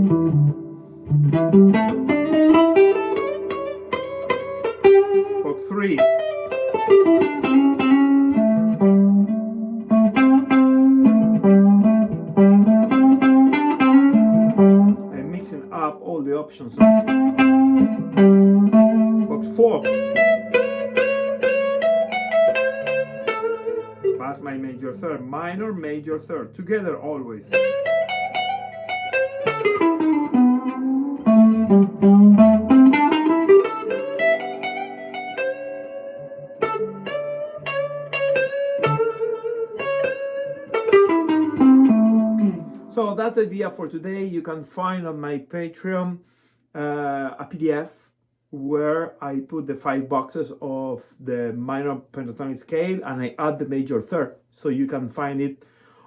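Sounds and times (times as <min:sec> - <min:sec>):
blues guitar line: 0:00.0 - 0:45.5.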